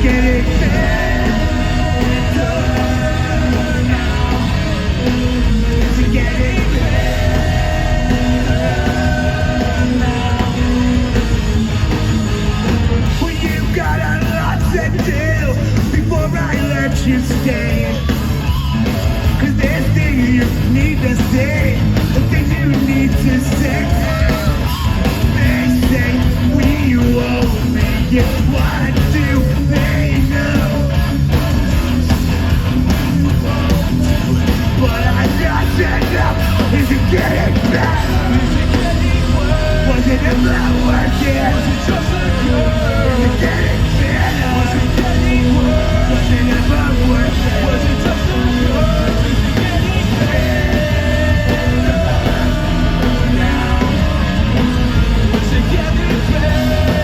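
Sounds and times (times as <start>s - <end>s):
person singing and shouting: 0.0s - 11.4s, 12.8s - 57.0s
rock band playing live: 0.0s - 57.0s.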